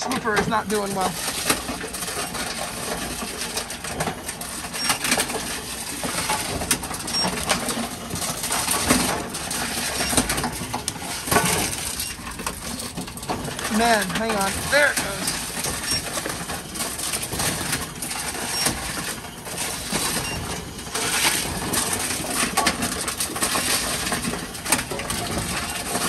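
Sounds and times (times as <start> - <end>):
machine clicks and clatter: 0.0 - 26.0
steady mechanical hum: 0.0 - 26.0.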